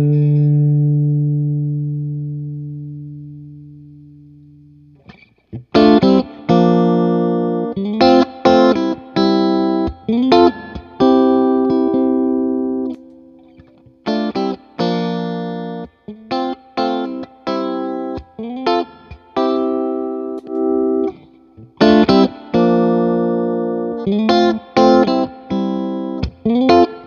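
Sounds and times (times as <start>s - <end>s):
electric guitar chords: 0.0s - 27.0s.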